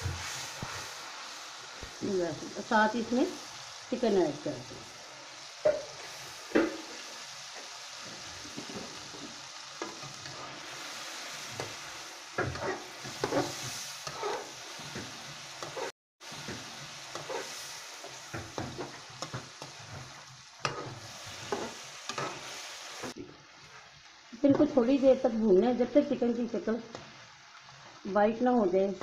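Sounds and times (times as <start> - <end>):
chicken sizzling in hot fat: 0.0 - 29.0.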